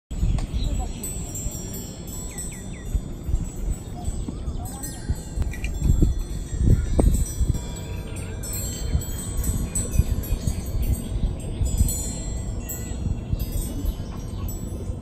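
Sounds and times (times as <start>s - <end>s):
wind rumble on microphone: 0.1s - 15.0s
small brass bells tinkling: 0.2s - 15.0s.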